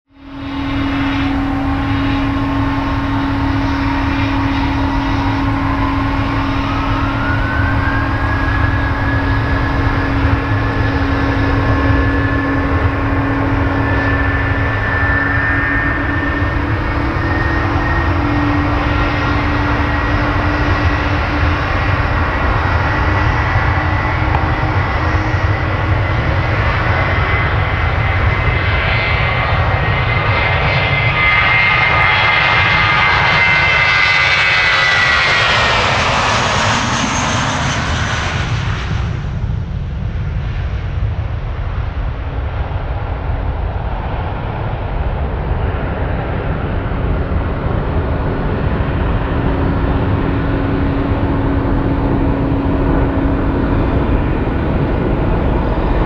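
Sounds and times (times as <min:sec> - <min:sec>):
high engine whine: 0:00.1 - 0:56.0
jet engines at high thrust: 0:00.1 - 0:56.0
low rumble: 0:00.1 - 0:56.0.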